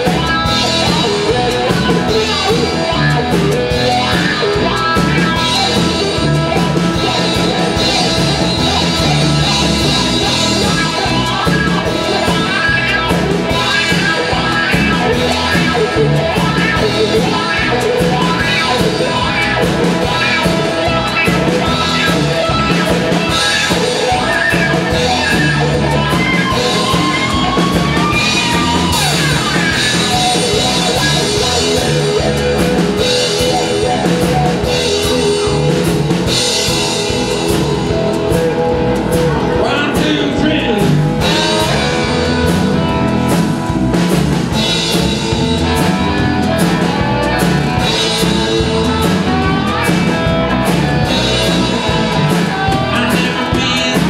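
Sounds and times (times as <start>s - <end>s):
cigar box guitars: 0.0s - 54.0s
drum kit: 0.0s - 54.0s
sliding guitar notes: 0.0s - 54.0s.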